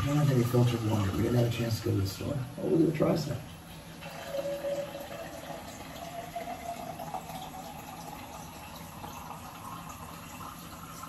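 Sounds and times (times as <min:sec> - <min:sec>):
tap water filling a container: 0:00.0 - 0:02.3, 0:02.9 - 0:11.0.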